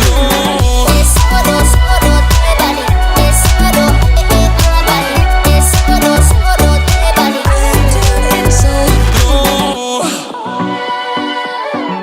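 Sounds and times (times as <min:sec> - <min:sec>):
music with heavy bass beat: 0:00.0 - 0:09.8.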